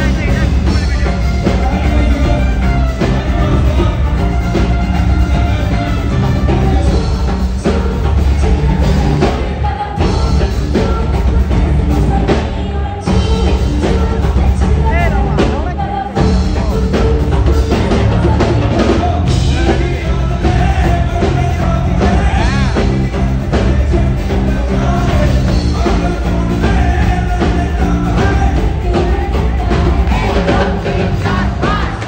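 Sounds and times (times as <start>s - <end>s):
live rock band playing: 0.0s - 32.0s
person singing: 0.0s - 32.0s.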